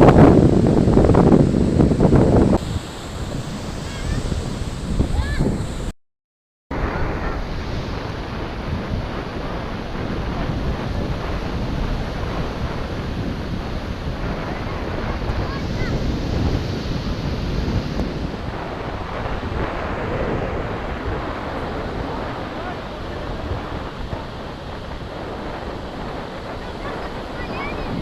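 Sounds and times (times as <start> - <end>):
ocean waves on beach: 0.0 - 5.9, 6.7 - 28.0
wind buffeting microphone: 0.0 - 5.9, 6.7 - 28.0.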